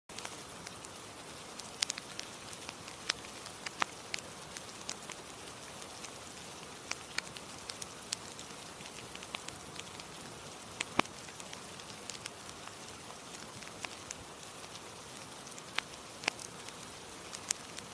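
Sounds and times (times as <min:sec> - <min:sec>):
steady rain hiss: 0:00.1 - 0:17.9
wood fire crackling and popping: 0:00.1 - 0:17.9.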